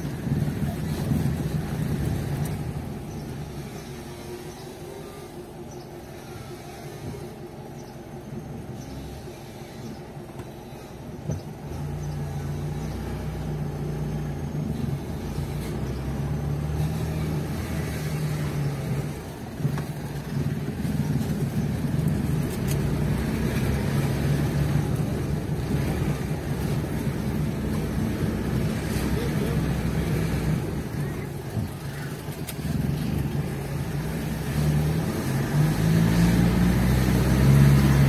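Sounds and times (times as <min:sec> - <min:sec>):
car engine running: 0:00.0 - 0:38.0
road noise: 0:00.0 - 0:38.0.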